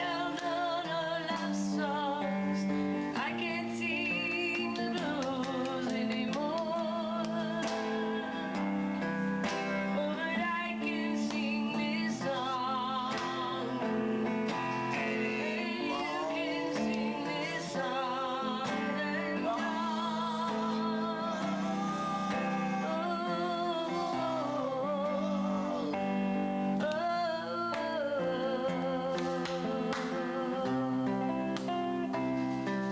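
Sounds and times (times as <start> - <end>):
acoustic guitar: 0.0 - 32.9
held chords: 0.0 - 32.9
woman singing with vibrato: 0.0 - 32.9.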